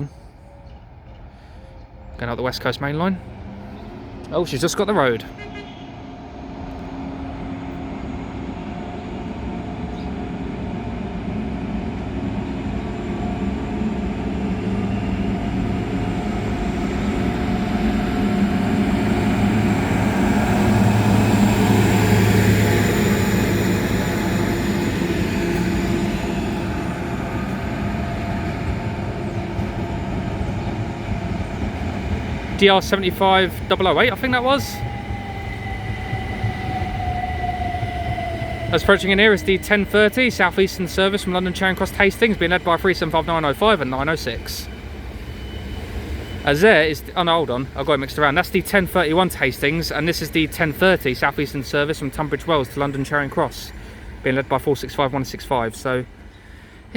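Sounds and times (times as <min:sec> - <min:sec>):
track machine diesel engine passing: 0:00.0 - 0:56.9.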